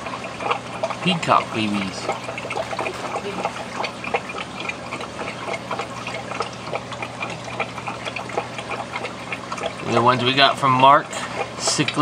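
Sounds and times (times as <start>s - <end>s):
aquarium water trickling and splashing: 0.0s - 12.0s
filter humming: 0.0s - 12.0s.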